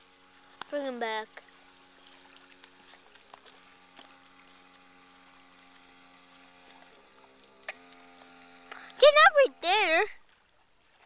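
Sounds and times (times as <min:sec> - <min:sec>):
faint electric motor whine: 0:00.0 - 0:11.0.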